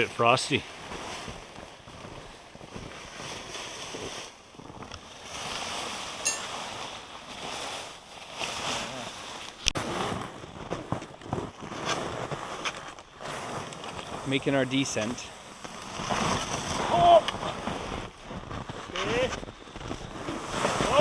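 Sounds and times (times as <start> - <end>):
footsteps crunching through snow: 0.6 - 4.5, 5.3 - 21.0.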